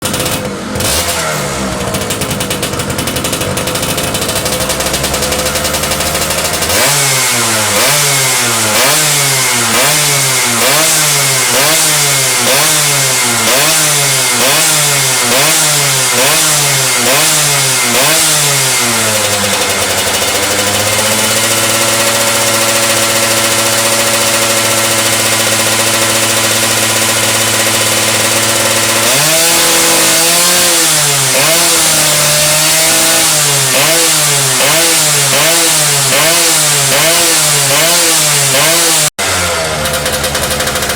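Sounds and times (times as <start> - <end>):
two-stroke engine revving: 0.0 - 40.9.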